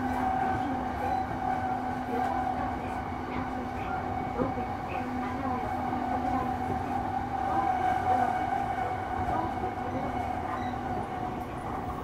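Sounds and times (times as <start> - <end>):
steady train hum: 0.0 - 12.0
train wheels rumbling on rail: 0.0 - 12.0.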